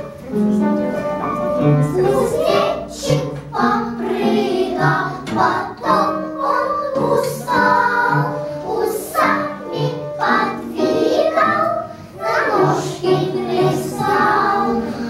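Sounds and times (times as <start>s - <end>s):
instrumental accompaniment: 0.0s - 15.0s
girls singing: 1.8s - 15.0s.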